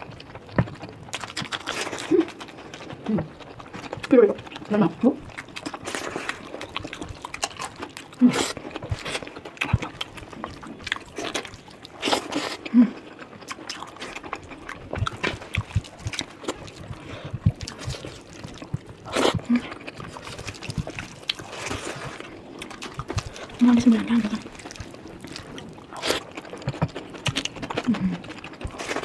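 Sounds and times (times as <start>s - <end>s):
person chewing wetly: 0.0s - 29.0s.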